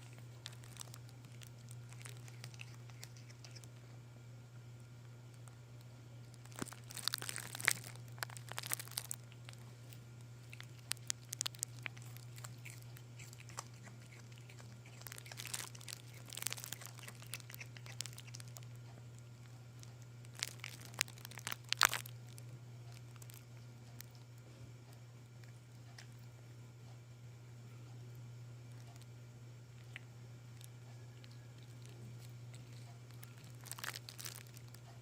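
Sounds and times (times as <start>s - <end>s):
kitten crunching vegetable peels: 0.0s - 26.4s, 28.7s - 35.0s.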